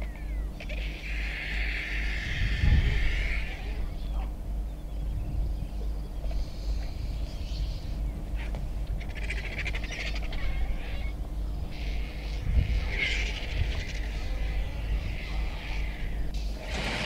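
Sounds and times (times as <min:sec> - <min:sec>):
rapid rattling bird call: 0:00.0 - 0:04.8, 0:07.6 - 0:17.0
steady low rumble: 0:00.0 - 0:17.0
wild birds calling: 0:00.0 - 0:17.0.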